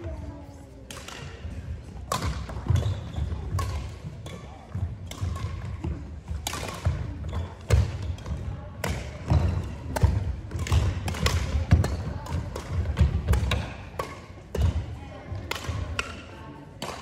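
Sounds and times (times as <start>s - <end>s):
racket striking shuttlecock: 0.9s - 17.0s.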